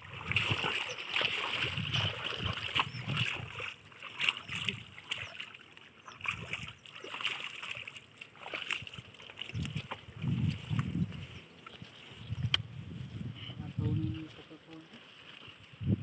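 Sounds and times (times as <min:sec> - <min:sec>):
river water splashing: 0:00.0 - 0:12.2, 0:14.2 - 0:15.8.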